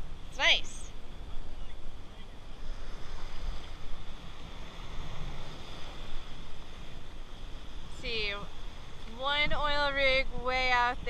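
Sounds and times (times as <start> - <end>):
surf washing and splashing: 0.0 - 11.0
wind rumbling on microphone: 0.0 - 11.0.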